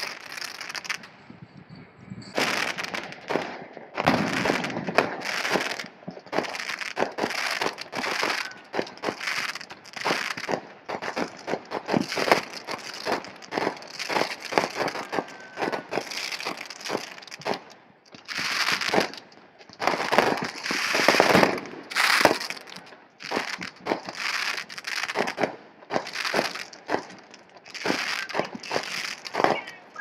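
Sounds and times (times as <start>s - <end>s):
fireworks crackling and popping: 0.0s - 30.0s.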